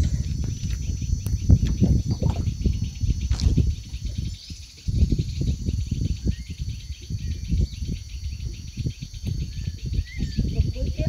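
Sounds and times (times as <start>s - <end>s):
bird chirps: 0.0s - 11.0s
insects trilling: 0.0s - 11.0s
low thumps and rumble: 0.0s - 11.0s.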